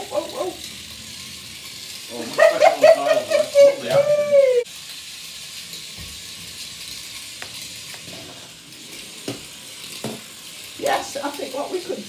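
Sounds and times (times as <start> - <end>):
toy motor hissing whir: 0.0 - 12.0.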